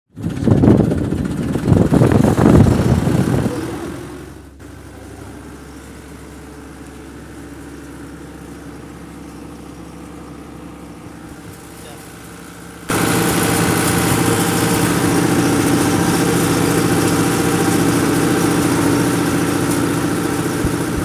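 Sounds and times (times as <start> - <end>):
model tractor engine running: 0.2 - 21.0.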